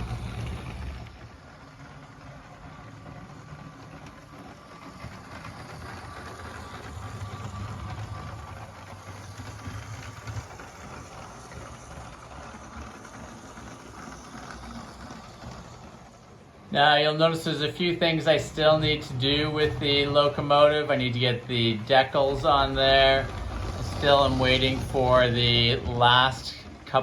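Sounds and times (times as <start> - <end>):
small electric motors whirring: 0.0 - 16.7, 17.5 - 26.8
toy wheels running on rails: 0.0 - 27.0.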